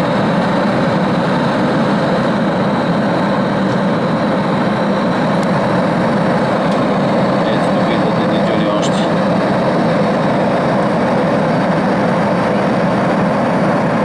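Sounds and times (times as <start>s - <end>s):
airplane cabin roar: 0.0s - 14.0s
faint high whine: 0.0s - 14.0s.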